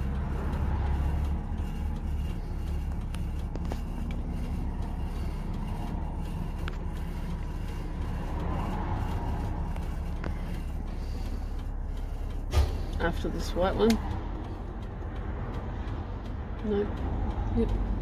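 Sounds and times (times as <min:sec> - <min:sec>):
bus engine idling: 0:00.0 - 0:18.0
passing vehicle rumble: 0:00.0 - 0:18.0.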